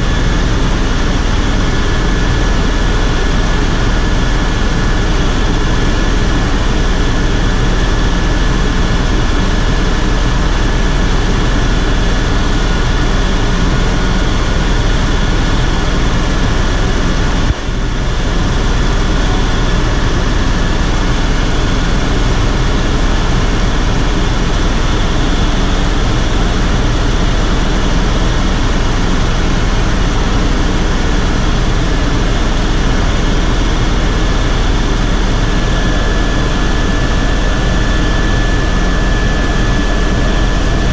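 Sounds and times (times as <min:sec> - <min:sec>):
helicopter engine and rotor drone: 0:00.0 - 0:40.9
high turbine whine: 0:00.0 - 0:40.9.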